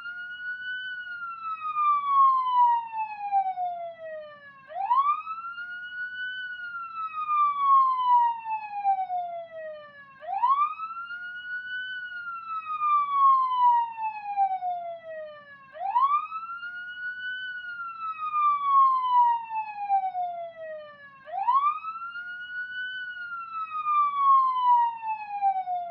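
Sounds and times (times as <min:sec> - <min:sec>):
police siren wailing: 0:00.0 - 0:25.9.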